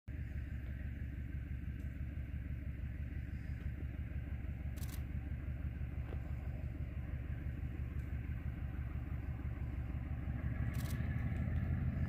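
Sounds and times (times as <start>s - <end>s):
distant locomotive engine rumble: 0.1s - 12.0s.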